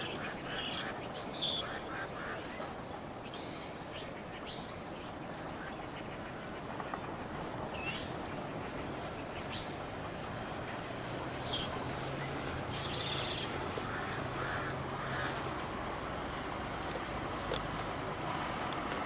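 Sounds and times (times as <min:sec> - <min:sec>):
steady outdoor background noise: 0:00.0 - 0:19.0.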